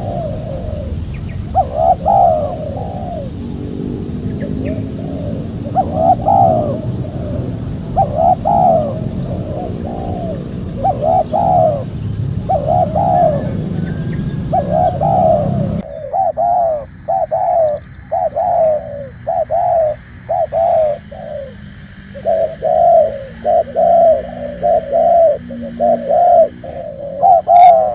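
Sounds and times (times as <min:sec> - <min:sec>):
dove cooing: 0:00.0 - 0:27.9
faint high whine: 0:00.0 - 0:27.9
low background rumble: 0:00.0 - 0:27.9.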